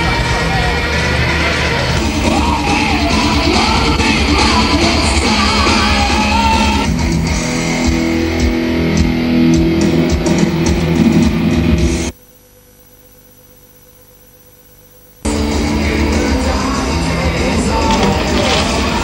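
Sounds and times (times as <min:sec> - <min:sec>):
rock music with electric guitar: 0:00.0 - 0:12.1, 0:15.2 - 0:19.0.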